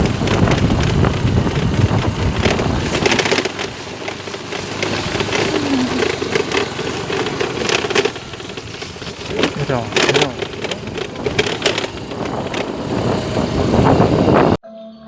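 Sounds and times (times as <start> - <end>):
clicks and rattles: 0.0 - 13.2
vehicle rumble: 0.0 - 14.6.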